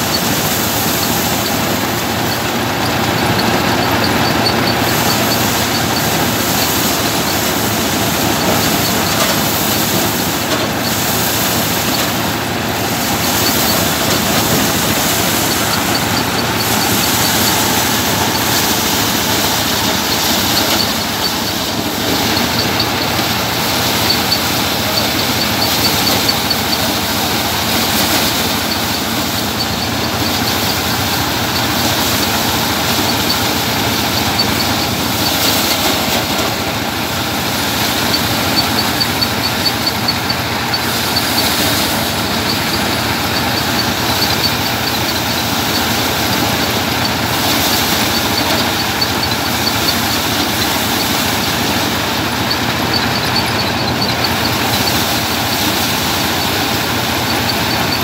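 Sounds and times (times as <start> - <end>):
thresher mechanical din: 0.0 - 58.0.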